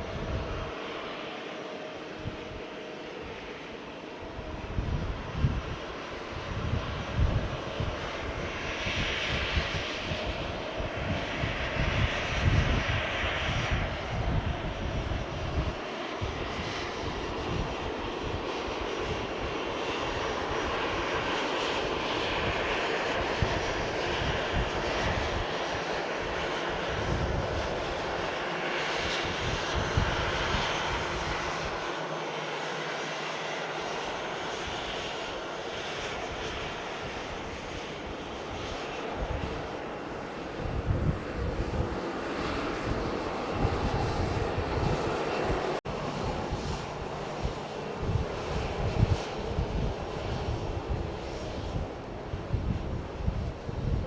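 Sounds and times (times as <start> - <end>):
jet engine roar: 0.0 - 54.0.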